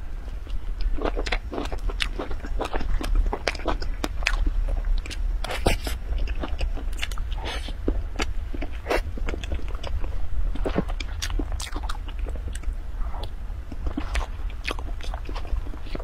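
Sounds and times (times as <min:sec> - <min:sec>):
steady low hum: 0:00.0 - 0:16.0
person chewing cream cake: 0:00.3 - 0:16.0.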